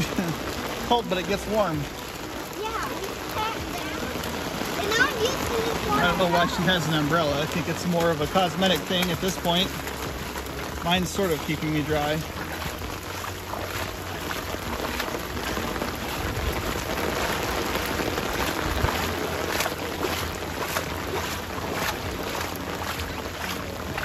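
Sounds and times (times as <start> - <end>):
footsteps splashing through water: 0.0 - 24.0
heavy rain: 0.0 - 24.0.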